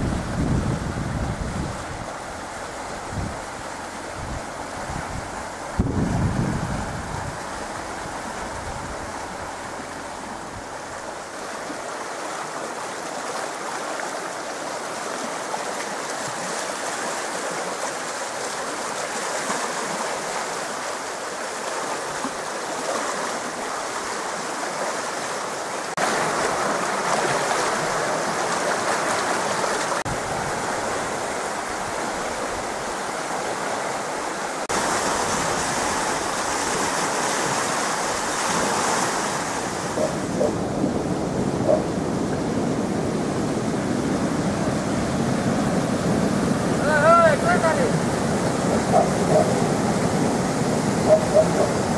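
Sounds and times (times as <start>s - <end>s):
flooded creek water rushing: 0.0s - 51.9s.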